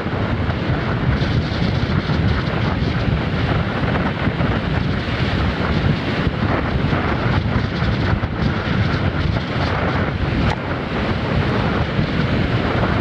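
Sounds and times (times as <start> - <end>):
surf breaking on shore: 0.0 - 13.0
wind buffeting microphone: 0.0 - 13.0.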